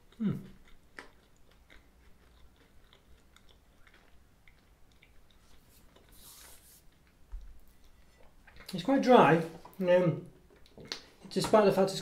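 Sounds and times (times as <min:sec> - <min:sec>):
chewing crumbly pastry: 0:00.0 - 0:08.8, 0:10.4 - 0:11.2.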